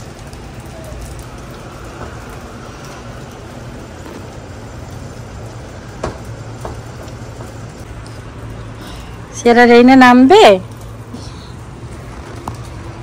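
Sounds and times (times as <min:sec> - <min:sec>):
rain on wet pavement: 0:00.0 - 0:13.0.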